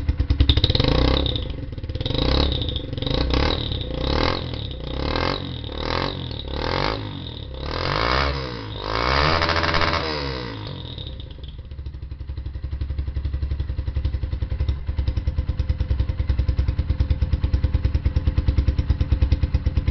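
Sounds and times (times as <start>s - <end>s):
motorcycle engine revving and idling: 0.0s - 19.9s.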